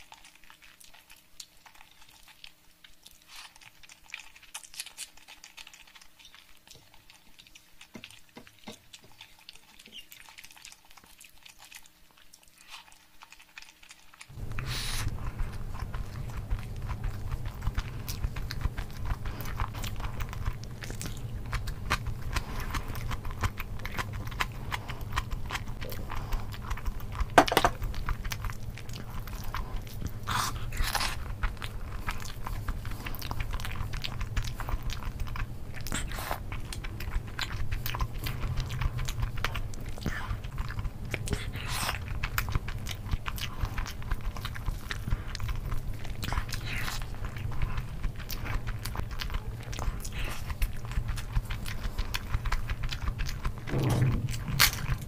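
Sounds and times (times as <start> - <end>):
chewing and wet lip smacks: 0.0 - 55.0
low steady hum: 0.0 - 55.0
rice squishing in fingers: 9.0 - 55.0.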